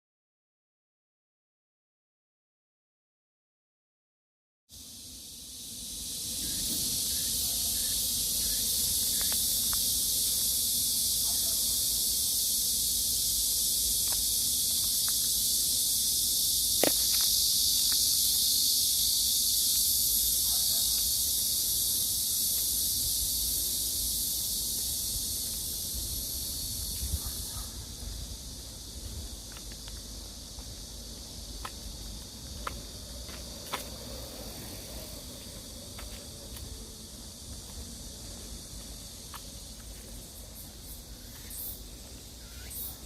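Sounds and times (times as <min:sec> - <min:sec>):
insect chorus: 0:04.7 - 0:43.0.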